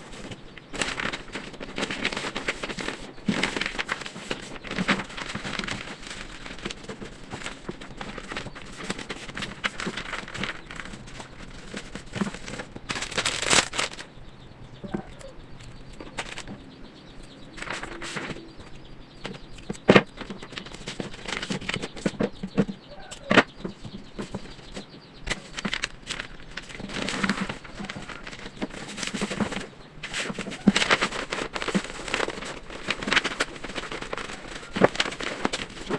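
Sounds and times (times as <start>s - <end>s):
wrapping crinkling and rustling: 0.0s - 14.1s, 14.8s - 16.6s, 17.3s - 35.9s.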